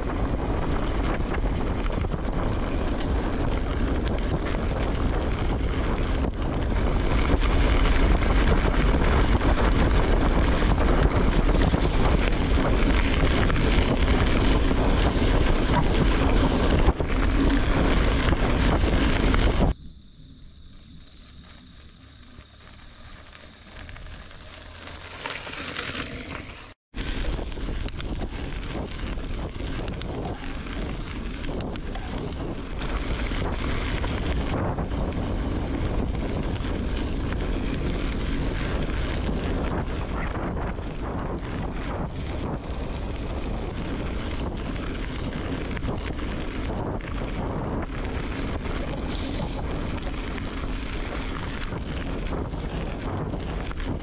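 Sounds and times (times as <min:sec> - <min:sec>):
tyres rumbling on gravel: 0:00.0 - 0:19.8, 0:21.0 - 0:54.0
wind rushing over microphone: 0:00.0 - 0:54.0.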